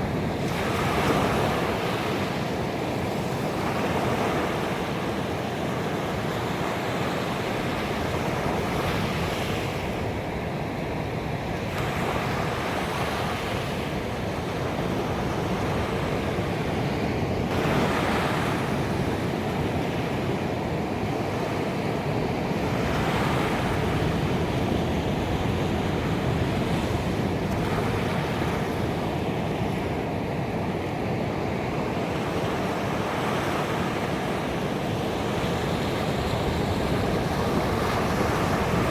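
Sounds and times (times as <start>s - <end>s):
ocean waves breaking: 0.0s - 10.4s, 11.4s - 38.9s.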